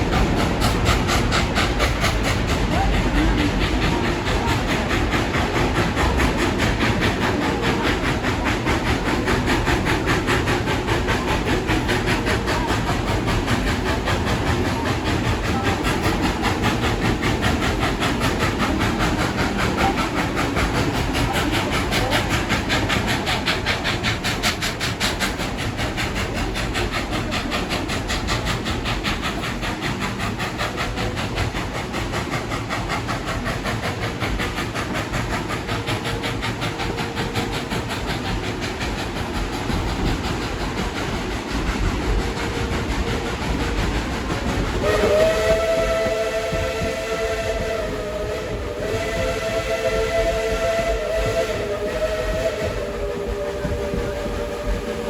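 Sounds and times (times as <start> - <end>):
clattering train wheels: 0.0 - 55.0
steam locomotive working steam: 0.0 - 55.0.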